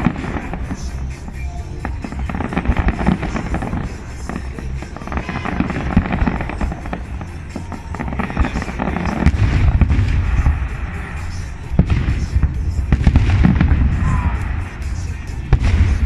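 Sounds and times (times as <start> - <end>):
fireworks bangs and crackling: 0.0 - 16.0
music playing: 0.0 - 16.0.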